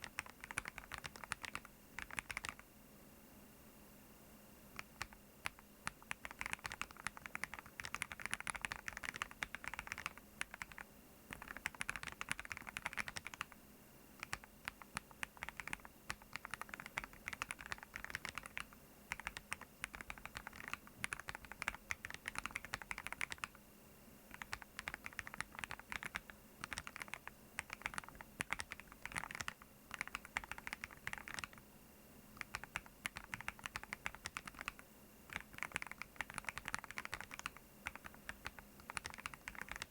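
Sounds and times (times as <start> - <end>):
mechanical keyboard typing: 0.0 - 2.6, 4.8 - 13.6, 14.2 - 23.6, 24.3 - 31.6, 32.4 - 39.9.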